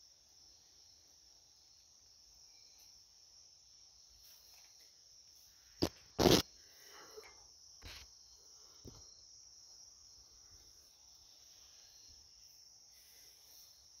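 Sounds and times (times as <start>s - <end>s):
crickets droning: 0.0s - 14.0s.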